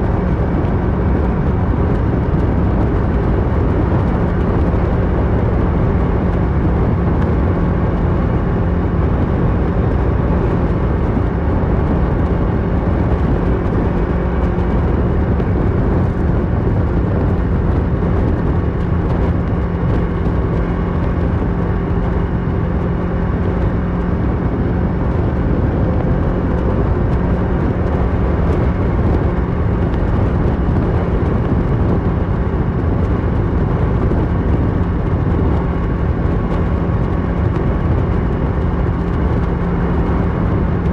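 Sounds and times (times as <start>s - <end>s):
motorcycle engine cruising: 0.0s - 40.9s
wind noise: 0.0s - 40.9s.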